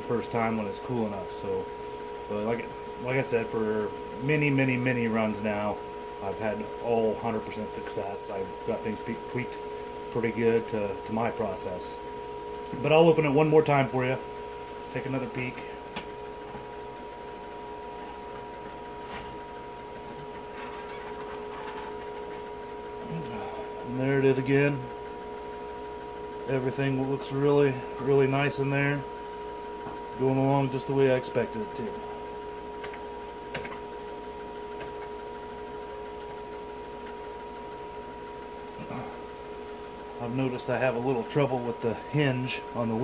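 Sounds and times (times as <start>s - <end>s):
steady tonal hum: 0.0s - 43.0s.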